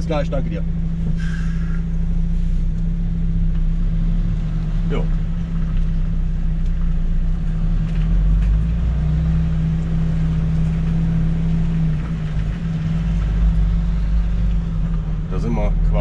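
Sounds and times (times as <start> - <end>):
truck diesel engine droning: 0.0 - 16.0.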